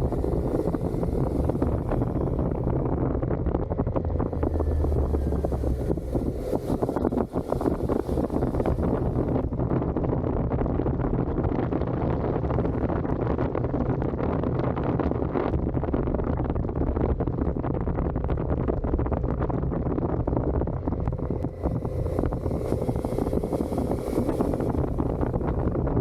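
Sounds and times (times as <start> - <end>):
motorcycle engine running: 0.0 - 14.3, 15.2 - 26.0
wind noise on microphone: 0.0 - 26.0.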